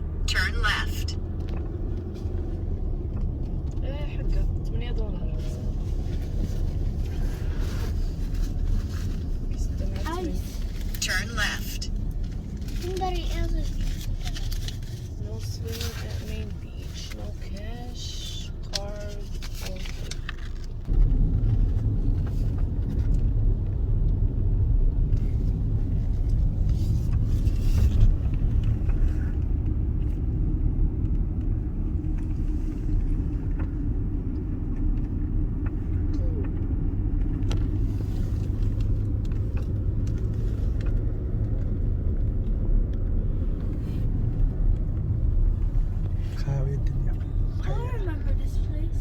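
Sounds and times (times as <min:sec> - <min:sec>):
car road and engine rumble: 0:00.0 - 0:49.0.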